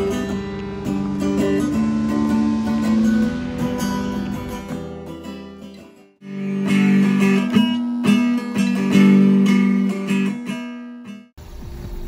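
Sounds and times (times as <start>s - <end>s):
electric guitar plucked notes: 0.0s - 11.3s.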